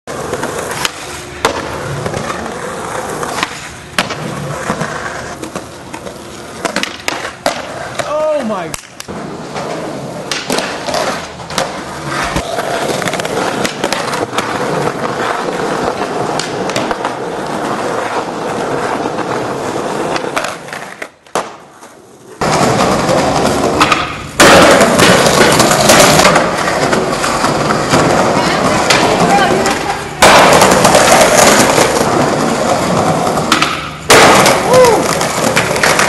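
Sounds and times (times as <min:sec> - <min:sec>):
skateboard popping and landing: 0:00.1 - 0:36.0
skateboard wheels rolling on concrete: 0:00.1 - 0:36.0.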